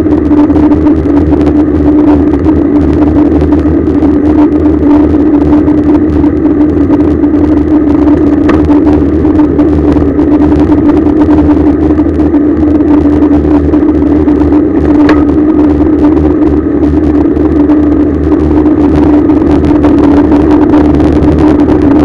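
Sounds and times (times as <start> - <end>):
road rumble: 0.0 - 22.0
steady hum: 0.0 - 22.0
wind rush: 0.0 - 22.0.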